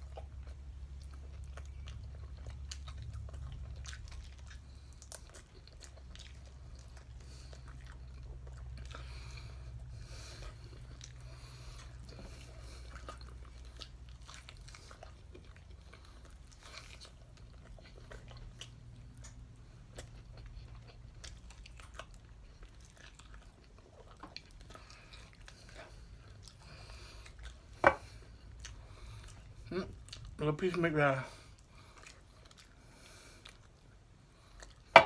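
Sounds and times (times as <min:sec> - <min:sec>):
chewing and crunching: 0:00.0 - 0:35.0
low steady hum: 0:00.0 - 0:35.0.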